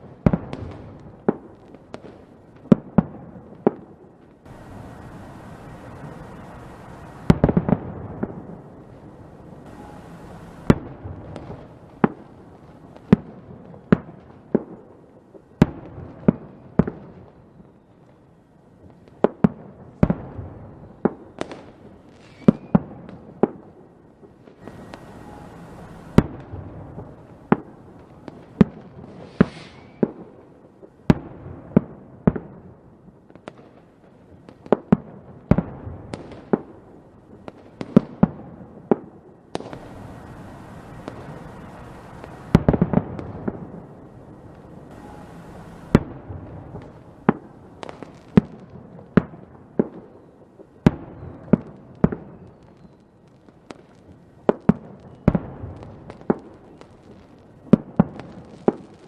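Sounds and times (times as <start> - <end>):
fireworks bangs: 0.0 - 17.8, 18.9 - 32.7, 33.3 - 59.0
fireworks crackling: 0.0 - 59.0.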